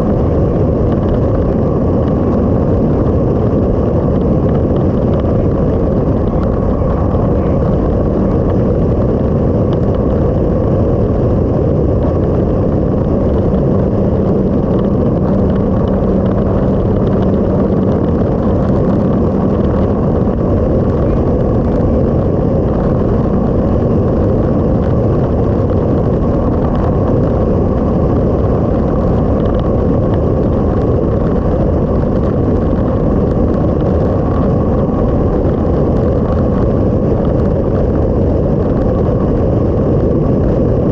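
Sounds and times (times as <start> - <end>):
motorcycle engine drone: 0.0 - 40.9
wind and road noise: 0.0 - 40.9.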